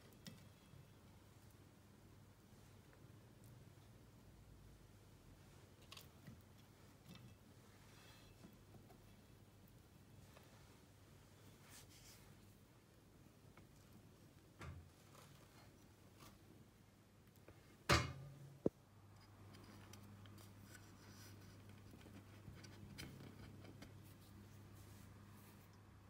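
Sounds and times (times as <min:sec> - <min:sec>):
faint handling sounds: 0:00.0 - 0:17.9, 0:18.5 - 0:26.0.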